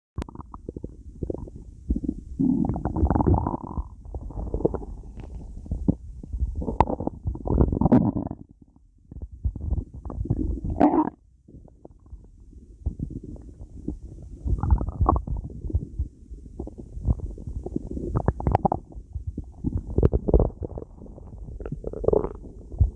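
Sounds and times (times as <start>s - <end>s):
stomach growling: 0.2s - 22.9s.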